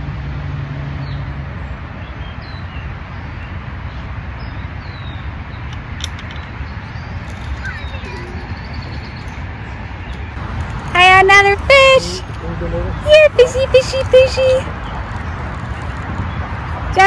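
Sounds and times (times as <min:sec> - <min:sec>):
small birds chirping: 0:02.0 - 0:17.0.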